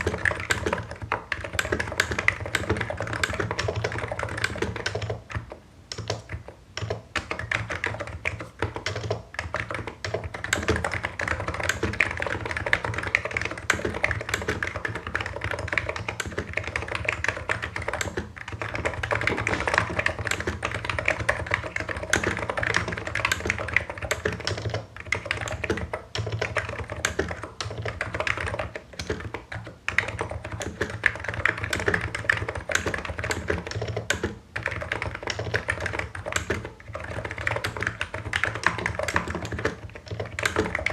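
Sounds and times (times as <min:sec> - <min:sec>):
typing on a keyboard: 0:00.0 - 0:40.9.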